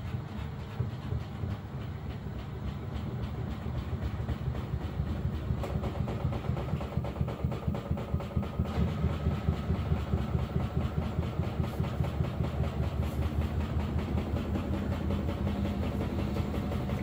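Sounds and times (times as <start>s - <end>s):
rapid rhythmic thumping: 0.0s - 17.0s
washing machine drum spinning: 0.0s - 17.0s.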